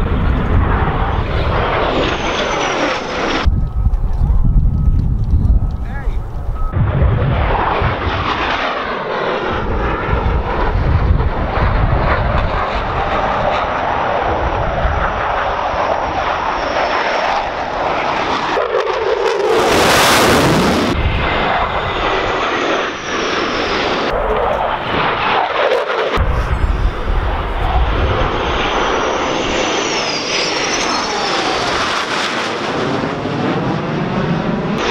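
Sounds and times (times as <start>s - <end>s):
jet aircraft flying past: 0.0s - 34.9s.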